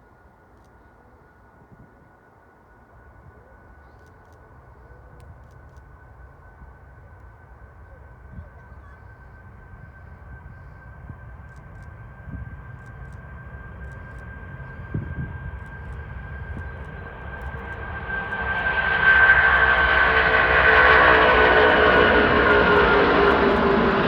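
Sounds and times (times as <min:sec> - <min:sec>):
jet engines at takeoff power: 0:01.9 - 0:24.0.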